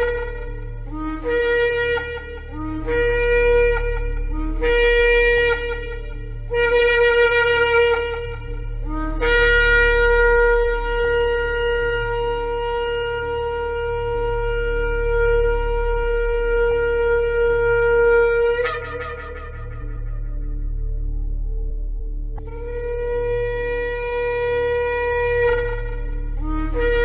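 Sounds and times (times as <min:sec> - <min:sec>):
shofar blasts: 0:00.0 - 0:21.4, 0:22.4 - 0:27.0.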